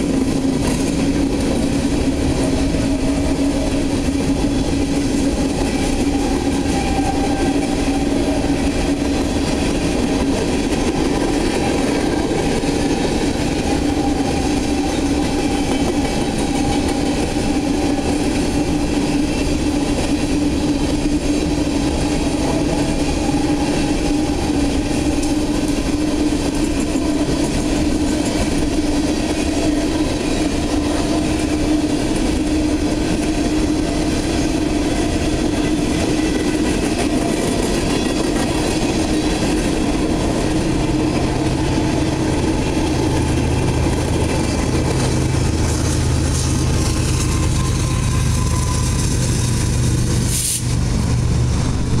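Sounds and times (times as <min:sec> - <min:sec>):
steel wheels on rails: 0:00.0 - 0:52.0.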